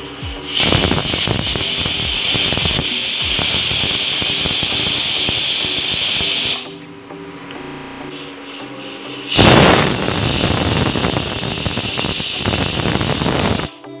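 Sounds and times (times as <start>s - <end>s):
pressure cooker whistle hiss: 0.4s - 6.7s, 8.1s - 13.8s.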